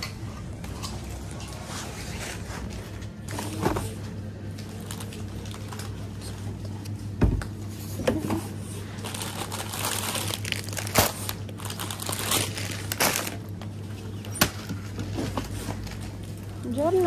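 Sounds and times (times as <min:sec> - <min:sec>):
steady low hum: 0:00.0 - 0:17.0
plastic crinkling and rustling: 0:00.7 - 0:06.9, 0:08.6 - 0:17.0.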